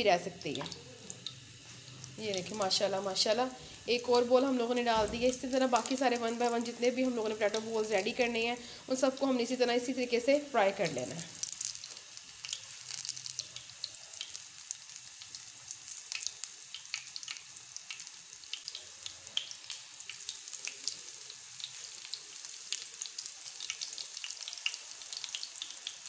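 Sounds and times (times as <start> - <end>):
food frying with crackles and pops: 0.0 - 26.0.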